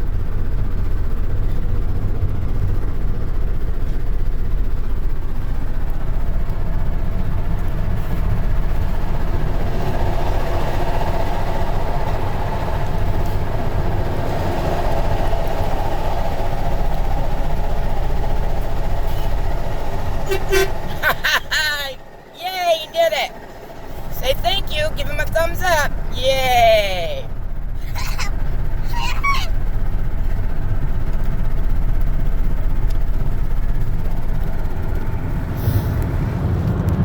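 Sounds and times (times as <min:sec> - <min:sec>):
large vehicle low rumble: 0:00.0 - 0:37.0
higher hum: 0:05.1 - 0:35.7.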